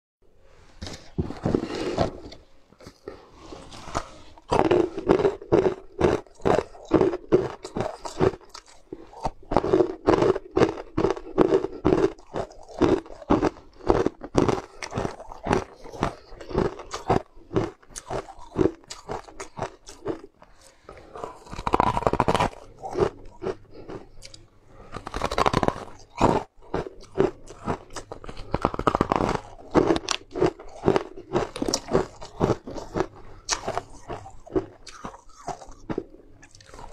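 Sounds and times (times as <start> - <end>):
crunching and chewing sweets: 0.7 - 36.9.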